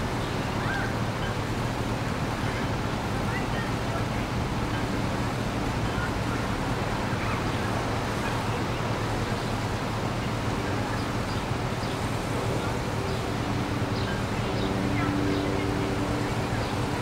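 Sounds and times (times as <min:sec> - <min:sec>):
turboprop plane droning past: 0:00.0 - 0:17.0.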